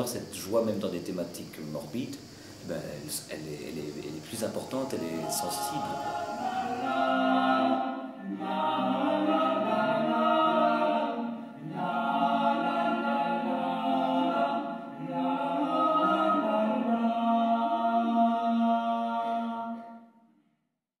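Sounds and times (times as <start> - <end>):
unaccompanied group singing: 3.4 - 20.3.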